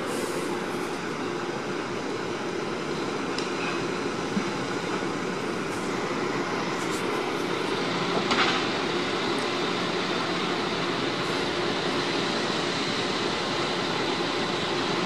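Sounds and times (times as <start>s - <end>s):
truck diesel engines running: 0.0s - 15.0s.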